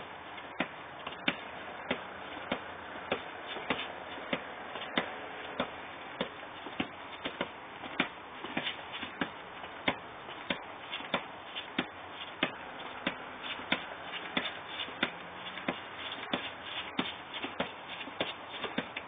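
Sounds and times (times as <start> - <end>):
trainers scuffing on paving: 0.4 - 19.0.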